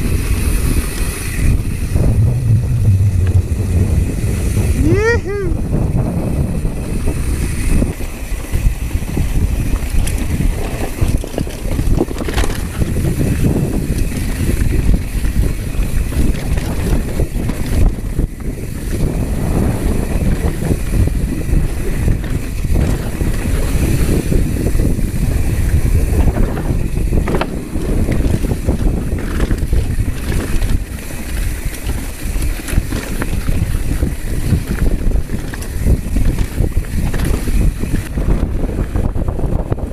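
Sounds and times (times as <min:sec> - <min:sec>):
bike clicks and rattles: 0:00.0 - 0:39.9
bike tyre noise on dirt: 0:00.0 - 0:39.9
wind buffeting microphone: 0:00.0 - 0:39.9.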